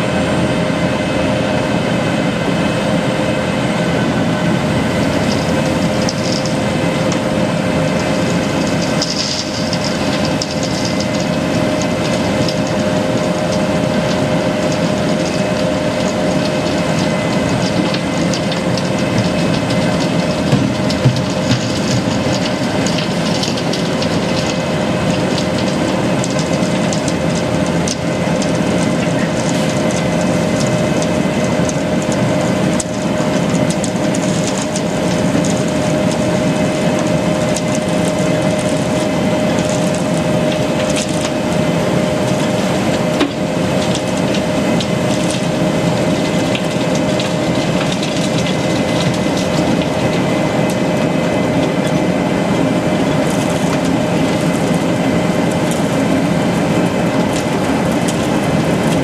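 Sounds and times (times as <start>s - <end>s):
milling machine drone and whine: 0.0s - 59.0s
crunching clatter of broken asphalt: 4.8s - 59.0s.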